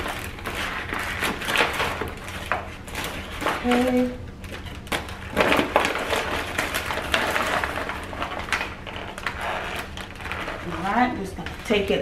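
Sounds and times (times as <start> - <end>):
food packaging crinkling: 0.0 - 12.0.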